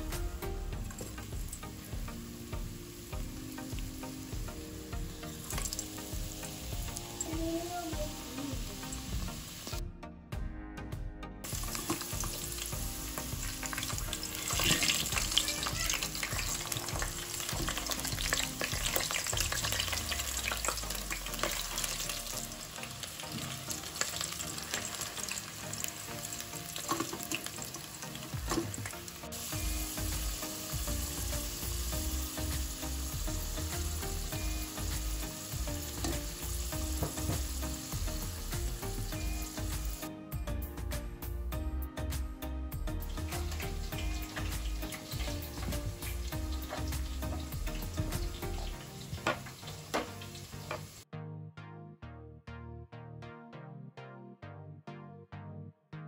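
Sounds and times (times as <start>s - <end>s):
potatoes sizzling in hot oil: 0.8s - 9.8s, 11.4s - 40.1s, 43.0s - 51.0s.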